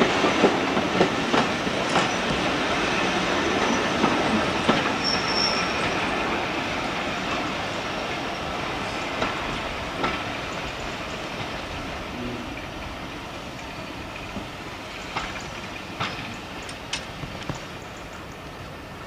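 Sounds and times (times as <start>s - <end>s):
wheels clacking over rail joints: 0.0s - 11.6s, 13.6s - 18.5s
train rumbling: 0.0s - 19.0s.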